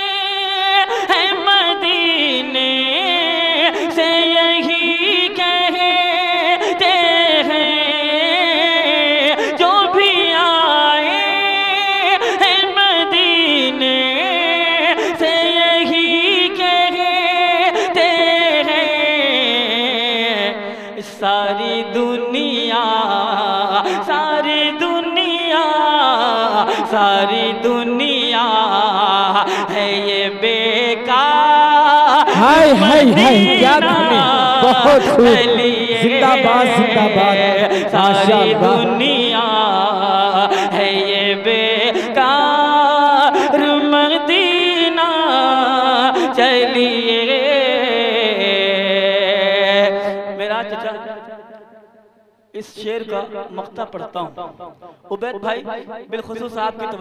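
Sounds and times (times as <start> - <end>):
man singing: 0.0 - 51.2.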